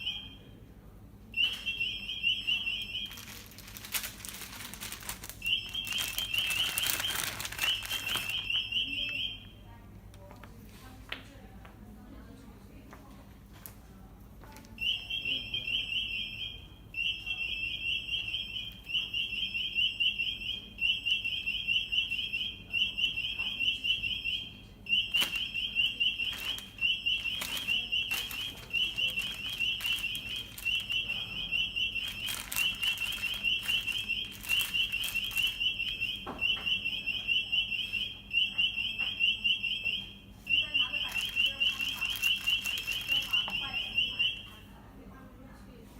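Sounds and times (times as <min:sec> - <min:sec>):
security gate alarm beeping: 0:00.0 - 0:00.7, 0:01.3 - 0:04.1, 0:05.0 - 0:09.6, 0:14.8 - 0:44.7.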